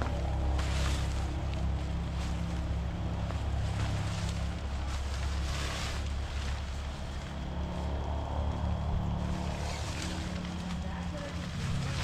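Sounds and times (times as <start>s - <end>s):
tent fabric rustling: 0.0s - 7.5s, 9.2s - 12.0s
steady low rumble: 0.0s - 12.0s.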